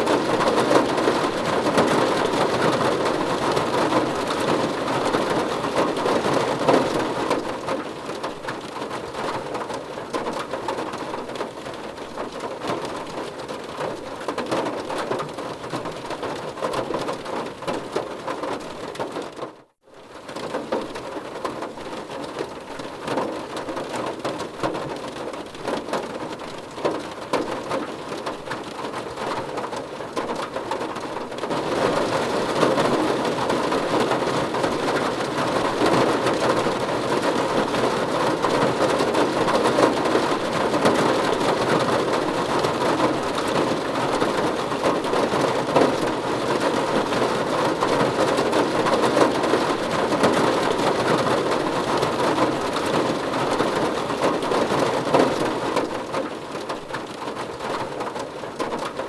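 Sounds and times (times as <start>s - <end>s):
heavy rain falling: 0.0s - 19.4s, 20.0s - 59.0s.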